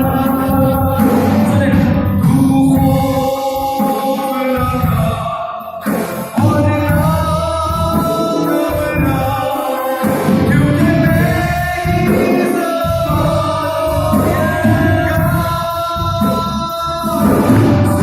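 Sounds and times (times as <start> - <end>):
lead singer singing: 0.0 - 18.0
voices singing along: 0.0 - 18.0
worship band playing: 0.0 - 18.0.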